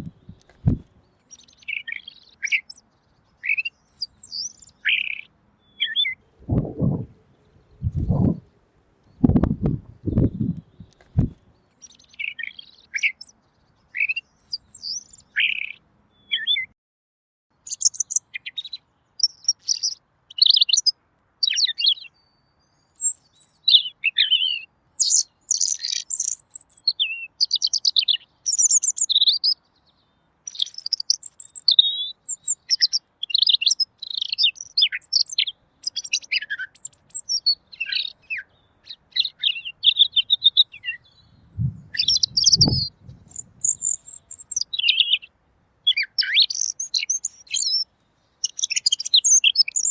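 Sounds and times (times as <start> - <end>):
bird singing high warbled phrases: 0.0 - 16.7, 17.6 - 49.9.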